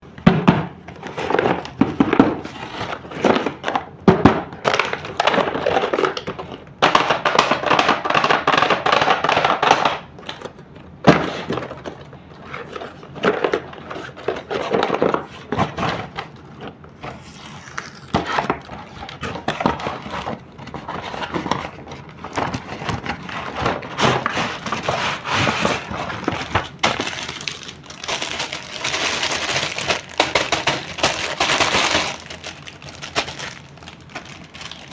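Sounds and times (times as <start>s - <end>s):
plastic and cardboard crinkling: 4.6s - 34.9s.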